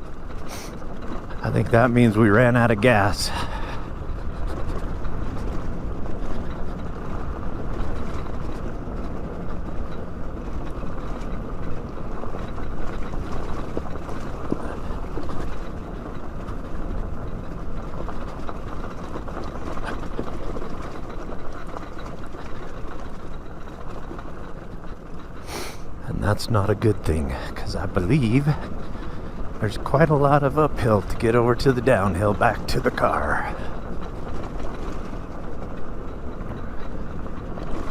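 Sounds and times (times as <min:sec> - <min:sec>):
tyres rolling over dirt: 0:00.0 - 0:37.9.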